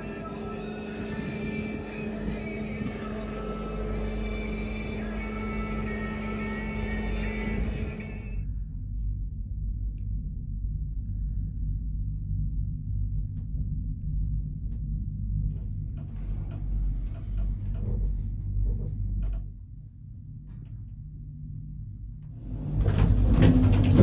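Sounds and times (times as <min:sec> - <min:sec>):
gondola cabin rumble: 0:00.0 - 0:24.0.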